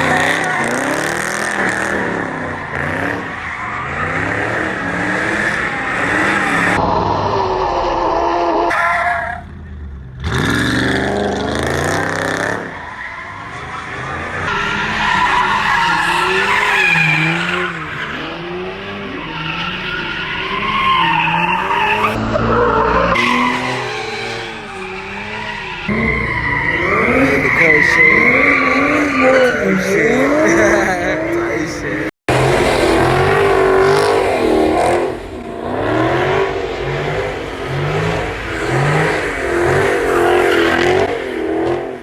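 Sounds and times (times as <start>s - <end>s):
car engines revving: 0.0s - 42.0s
tires squealing: 0.0s - 42.0s.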